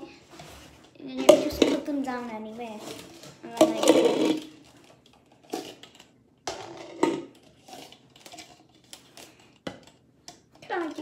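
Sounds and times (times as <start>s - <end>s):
plastic cups clacking: 0.8s - 2.1s, 2.8s - 11.0s.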